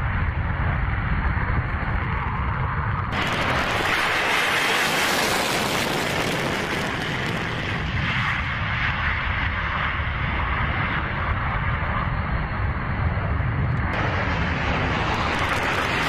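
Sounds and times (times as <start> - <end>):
jet engines roaring on takeoff: 0.0 - 16.0.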